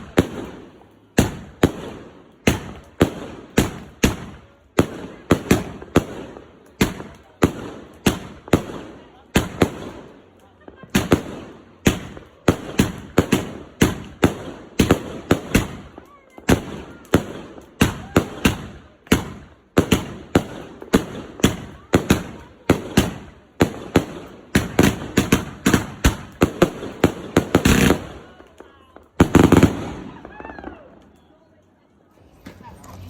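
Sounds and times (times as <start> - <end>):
fireworks banging: 0.0 - 31.3.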